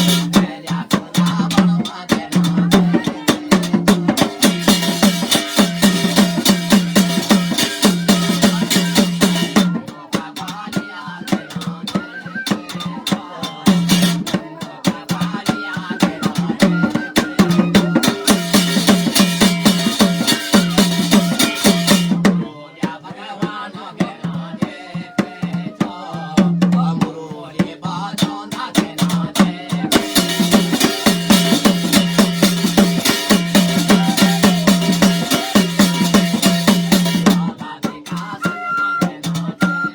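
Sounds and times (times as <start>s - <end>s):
jingling rattling percussion: 0.0s - 22.3s, 28.1s - 39.9s
fast steady drumming: 0.0s - 39.9s.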